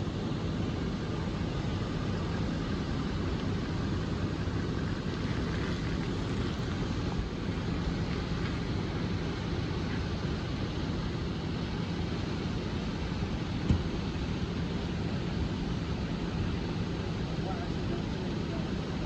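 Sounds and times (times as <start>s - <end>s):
diesel engines rumbling: 0.0s - 19.0s.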